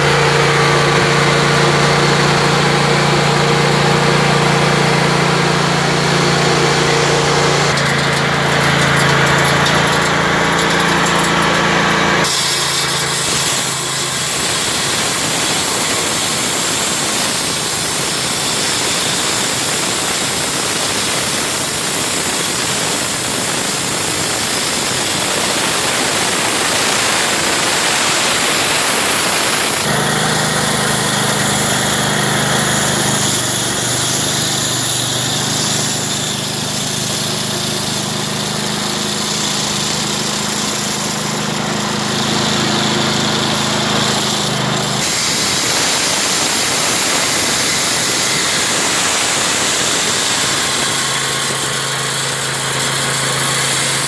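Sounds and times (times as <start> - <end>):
engine hum: 0.0 - 21.0, 21.9 - 54.0
saw blade grinding concrete: 0.0 - 54.0.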